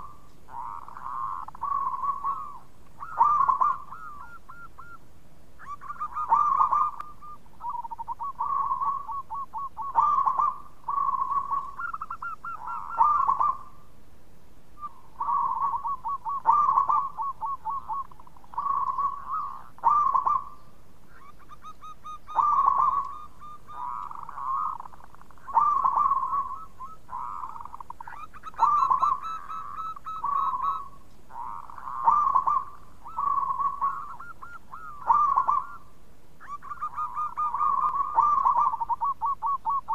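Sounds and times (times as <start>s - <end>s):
dove cooing: 0.0s - 5.0s, 5.6s - 13.9s, 14.8s - 39.9s.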